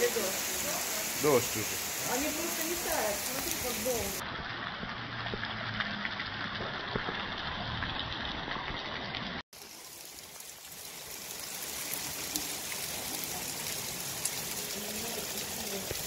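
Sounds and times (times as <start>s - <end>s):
heavy rain on wet pavement: 0.0s - 16.0s.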